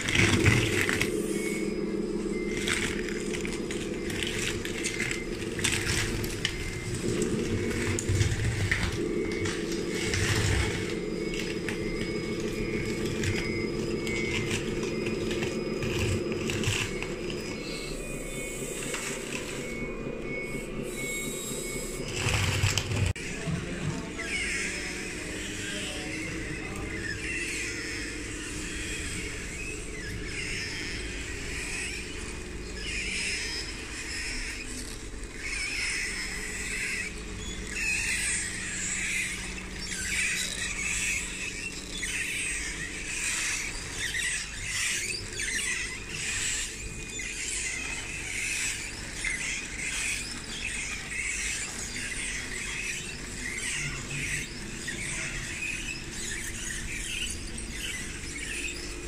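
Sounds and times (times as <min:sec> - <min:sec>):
low drive hum: 0:00.0 - 0:59.0
model bulldozer tracks squealing: 0:00.0 - 0:59.0.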